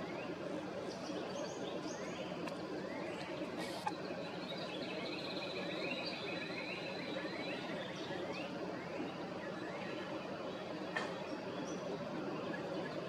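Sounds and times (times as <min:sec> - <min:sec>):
outdoor background noise: 0:00.0 - 0:13.0
small birds chirping: 0:00.0 - 0:13.0.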